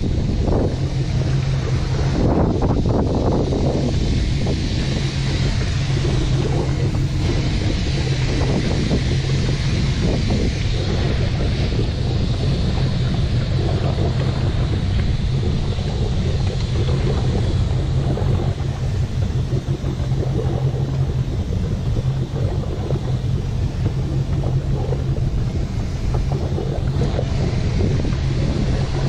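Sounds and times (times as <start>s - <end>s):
engine humming: 0.0s - 29.0s
wind buffeting microphone: 0.0s - 29.0s.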